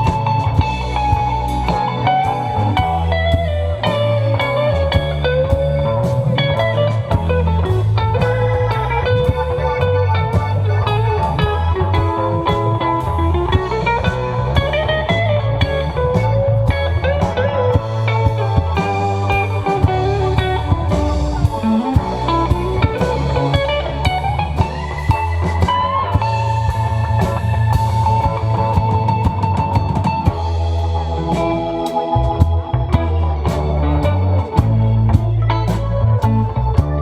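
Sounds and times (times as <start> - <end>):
bass guitar: 0.0 - 37.0
drums: 0.0 - 37.0
lead guitar bending notes: 0.0 - 37.0.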